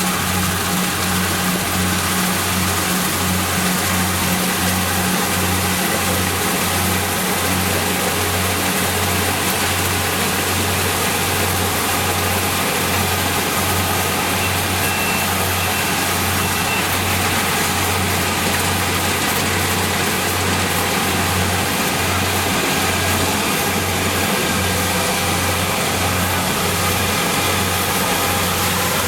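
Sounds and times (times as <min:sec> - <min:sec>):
combine harvester engine running: 0:00.0 - 0:29.0.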